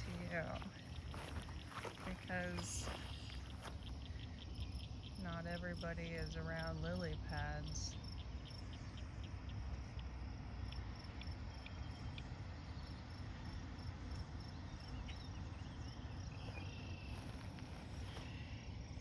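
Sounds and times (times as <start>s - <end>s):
insects chirping: 0.0s - 19.0s
steady low rumble: 0.0s - 19.0s.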